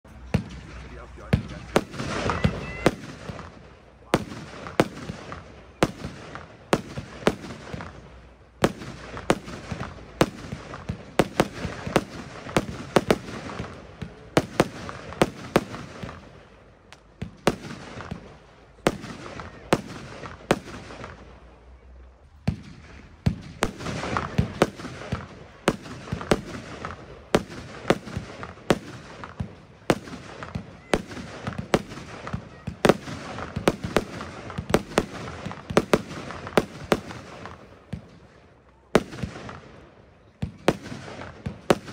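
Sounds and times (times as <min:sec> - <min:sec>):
firework bangs: 0:00.1 - 0:41.9
firework crackling: 0:00.1 - 0:41.9.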